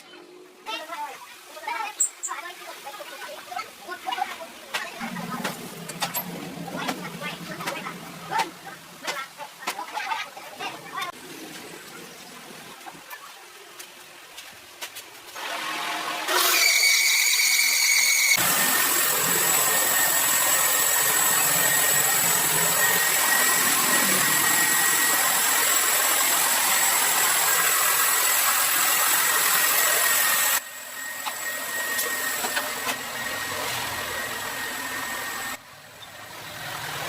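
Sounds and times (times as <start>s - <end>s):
thin high whine: 0.0s - 12.7s, 16.6s - 36.2s.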